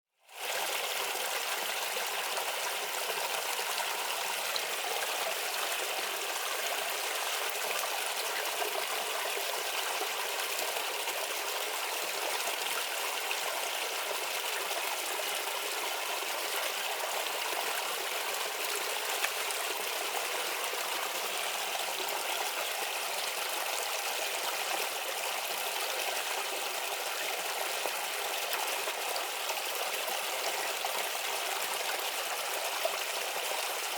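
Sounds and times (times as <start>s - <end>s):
stream babbling over stones: 0.3s - 33.9s.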